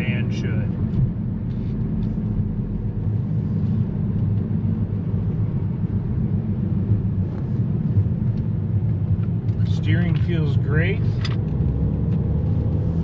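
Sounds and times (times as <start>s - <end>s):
diesel engine rumble: 0.0s - 13.0s
road noise: 0.0s - 13.0s.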